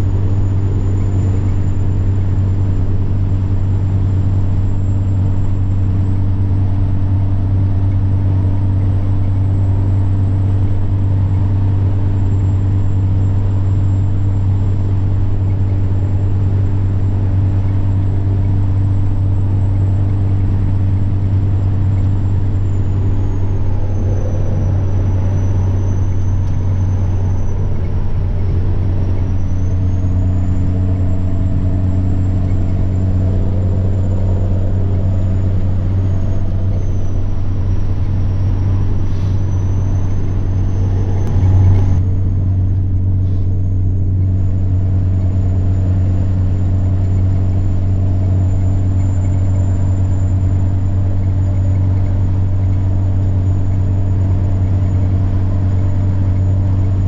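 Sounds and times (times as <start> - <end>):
truck diesel engine droning: 0.0 - 57.0
turbocharger whine: 0.0 - 57.0.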